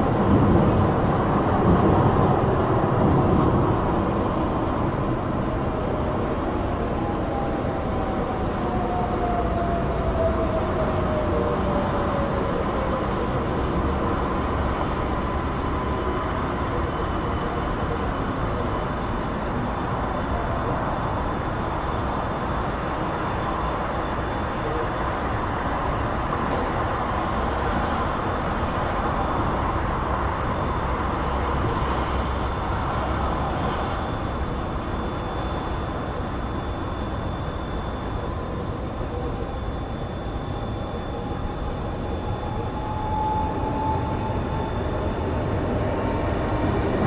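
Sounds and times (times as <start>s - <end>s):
distant motorway traffic: 0.0s - 47.0s
faint steady whine: 0.0s - 47.0s.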